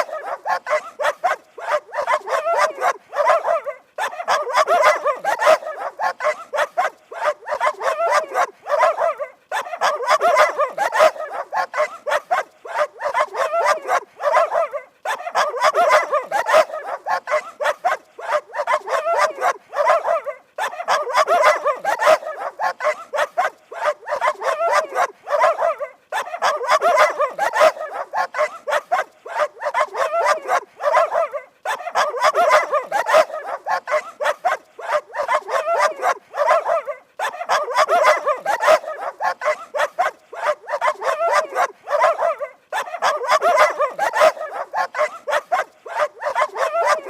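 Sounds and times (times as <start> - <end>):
dog barking rapidly: 0.0 - 47.0.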